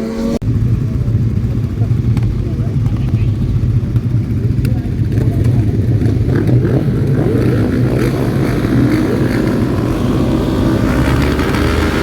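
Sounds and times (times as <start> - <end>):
racing car engines roaring: 0.0 - 12.0.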